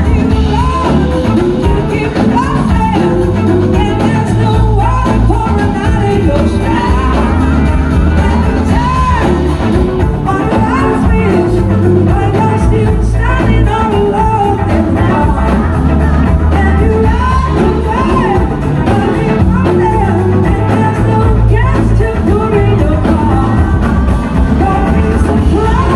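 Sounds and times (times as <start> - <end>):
drums: 0.0 - 25.9
electric guitars: 0.0 - 25.9
woman singing: 0.0 - 25.9.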